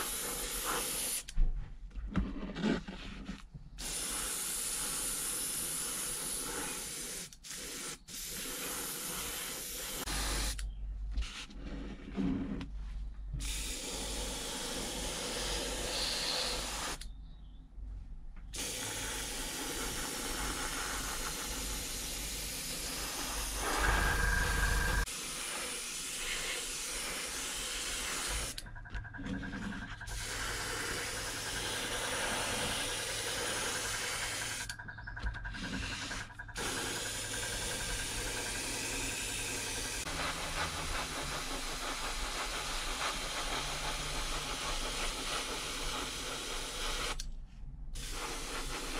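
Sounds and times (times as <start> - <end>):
airbrush hissing: 0.0 - 1.3, 3.8 - 11.8, 13.4 - 17.0, 18.6 - 28.6, 30.0 - 34.7, 35.5 - 47.2, 48.0 - 48.9.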